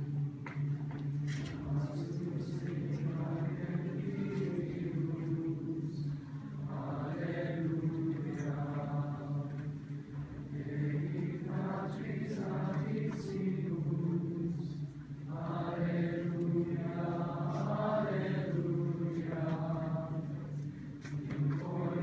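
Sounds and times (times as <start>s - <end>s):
choir singing: 1.6s - 20.6s, 21.2s - 22.0s.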